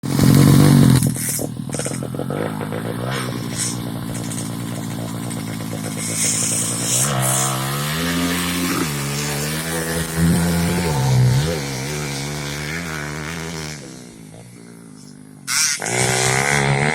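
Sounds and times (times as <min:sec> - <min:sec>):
racing motorcycle engines revving: 0:00.0 - 0:16.9.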